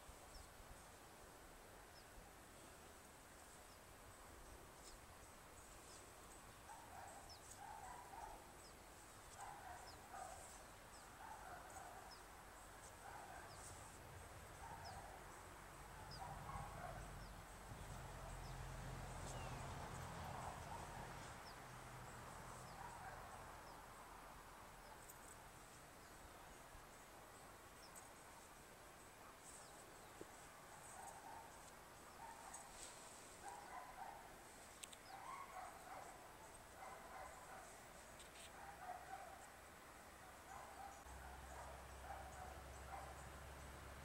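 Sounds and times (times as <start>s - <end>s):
small birds chirping: 3.5s - 24.0s, 24.8s - 39.6s.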